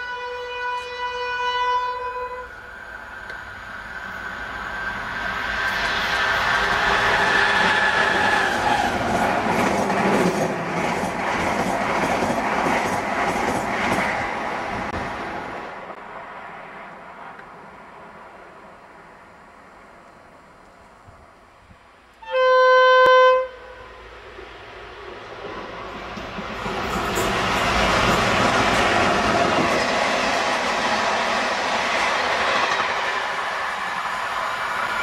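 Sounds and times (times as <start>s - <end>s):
diesel locomotive engine: 0.0s - 22.6s, 23.3s - 35.0s.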